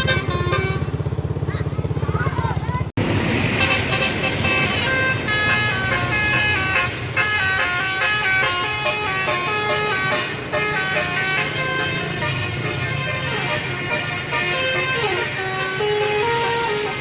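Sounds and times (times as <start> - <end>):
musical air horn tune: 0.0 - 1.0, 3.4 - 17.0
bus engine running: 0.0 - 17.0.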